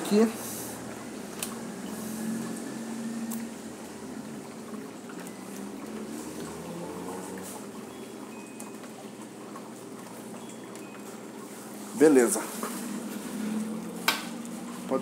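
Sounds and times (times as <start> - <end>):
liquid trickling into a kettle: 0.2 - 15.0.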